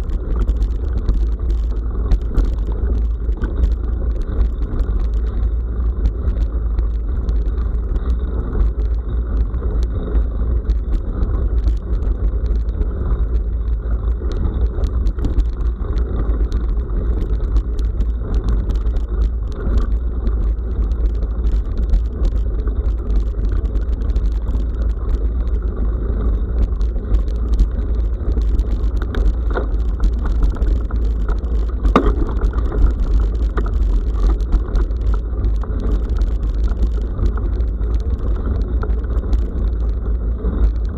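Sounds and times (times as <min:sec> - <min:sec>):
bike rattling on rough track: 0:00.0 - 0:40.9.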